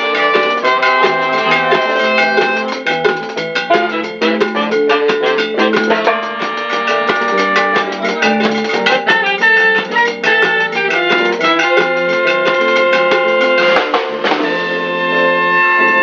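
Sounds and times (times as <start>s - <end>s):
latin dance beat: 0.0s - 16.0s
plucked guitar melody: 0.0s - 16.0s.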